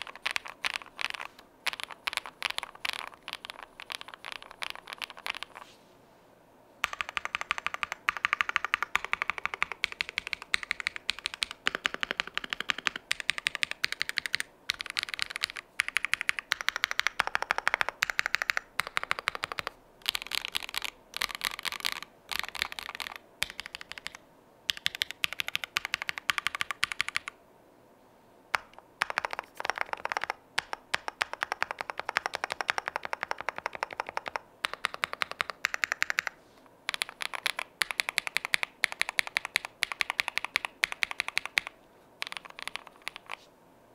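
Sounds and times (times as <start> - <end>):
mechanical keyboard typing: 0.0 - 5.6, 6.8 - 27.4, 28.5 - 43.4.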